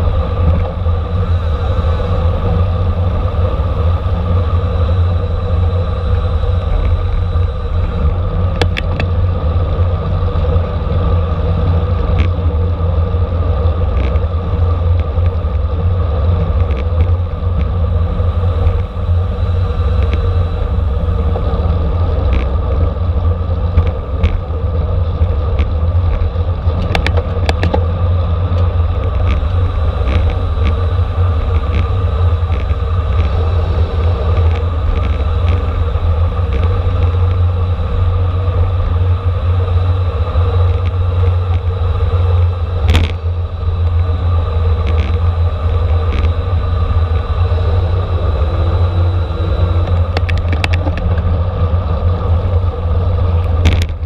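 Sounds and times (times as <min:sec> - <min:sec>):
bicycle road rumble: 0:00.0 - 0:54.0
bike clicks and rattles: 0:00.0 - 0:54.0
wind rush: 0:00.0 - 0:54.0.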